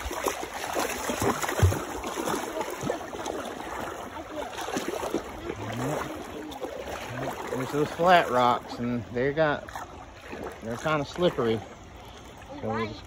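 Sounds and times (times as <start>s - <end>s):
creek water running over rocks: 0.0s - 13.0s
footsteps wading through water: 0.0s - 13.0s.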